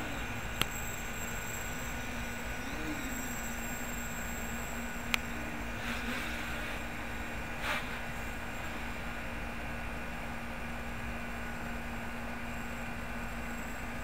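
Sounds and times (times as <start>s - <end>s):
quadcopter motors humming: 0.0s - 14.0s
steady hiss: 0.0s - 14.0s.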